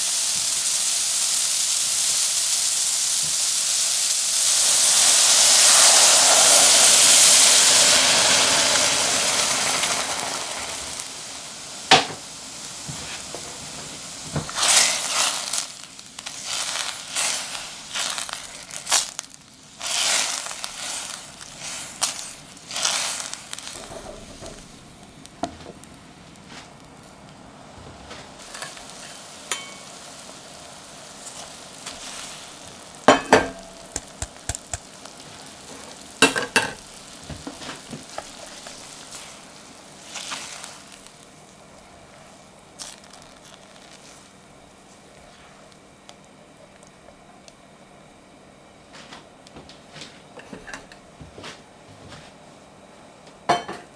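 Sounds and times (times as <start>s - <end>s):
mushrooms sizzling in a saucepan: 0.0s - 49.6s, 50.2s - 51.2s, 52.6s - 53.9s.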